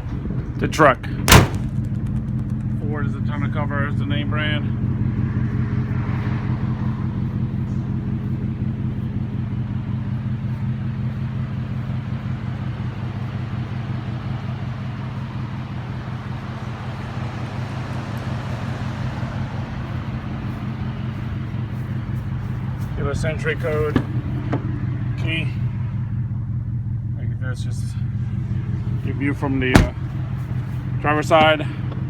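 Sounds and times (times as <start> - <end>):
pickup engine idling: 1.2 - 32.0.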